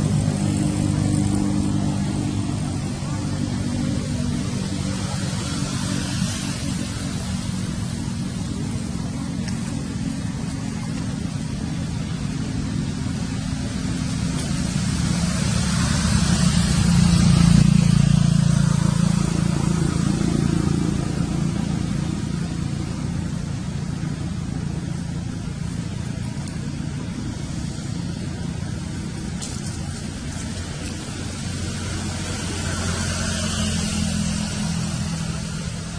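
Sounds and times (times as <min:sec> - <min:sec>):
outdoor noise: 0:00.0 - 0:35.9
vehicle engine hum: 0:00.0 - 0:35.9.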